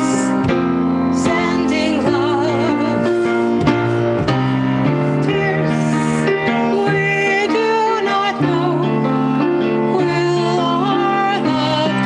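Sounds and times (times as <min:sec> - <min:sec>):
woman singing: 0:00.0 - 0:03.8, 0:05.0 - 0:12.0
instrumental accompaniment chords: 0:00.0 - 0:12.0.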